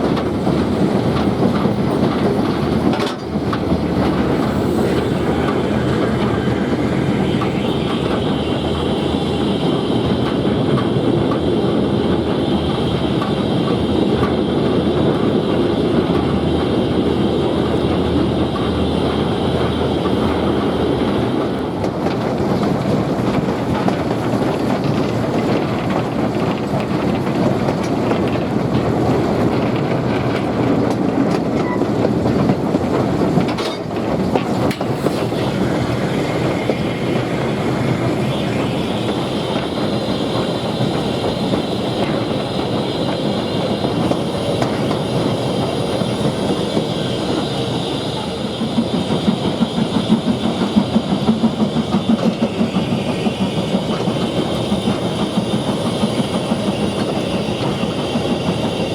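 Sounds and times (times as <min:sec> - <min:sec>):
train wheels rumbling on rails: 0:00.0 - 0:58.9
wheels clacking over rail joints: 0:00.0 - 0:58.9.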